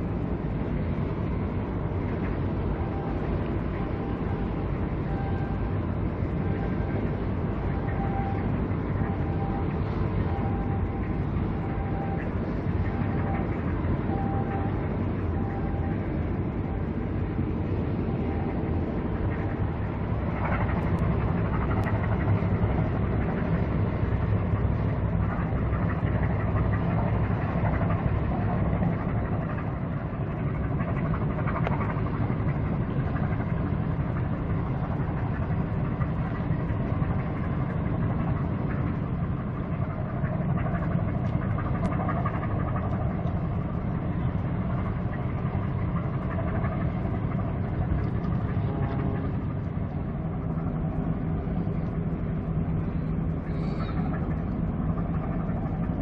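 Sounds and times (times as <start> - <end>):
diesel engine low rumble: 0.0 - 56.0.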